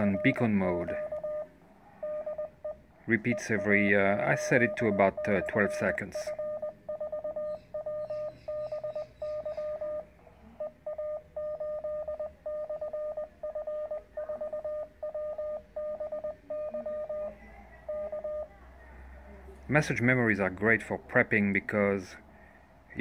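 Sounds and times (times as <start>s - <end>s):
morse code beeps: 0.0s - 18.6s.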